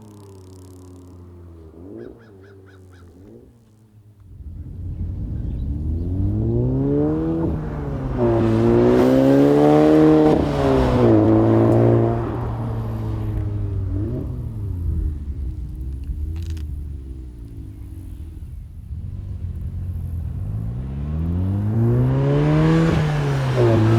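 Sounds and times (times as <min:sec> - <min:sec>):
car engine accelerating hard: 0:00.0 - 0:23.9.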